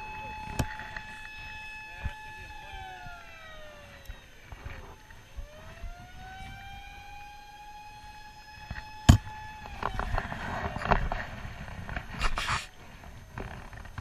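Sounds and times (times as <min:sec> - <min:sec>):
siren wailing: 0:00.0 - 0:11.5.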